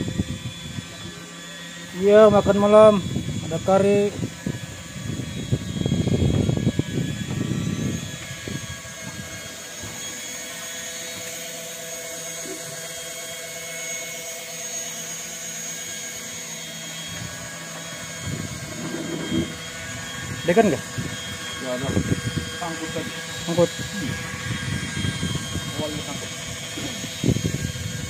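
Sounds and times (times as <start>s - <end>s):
boat engine drone: 0.0s - 28.0s.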